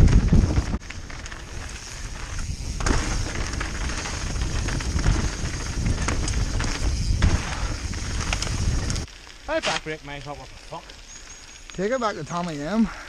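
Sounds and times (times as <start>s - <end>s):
bike rattling over roots and stones: 0.0s - 12.9s
wind and ground rumble: 0.0s - 13.0s.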